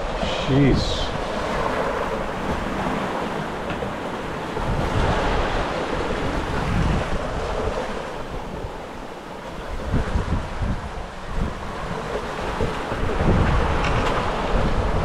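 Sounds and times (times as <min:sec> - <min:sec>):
breaking seas rushing: 0:00.0 - 0:15.0
wind buffeting microphone: 0:00.0 - 0:15.0.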